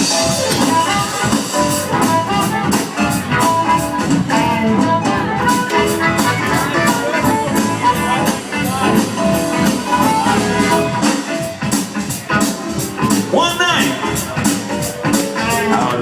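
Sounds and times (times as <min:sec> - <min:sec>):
blues band playing: 0:00.0 - 0:16.0.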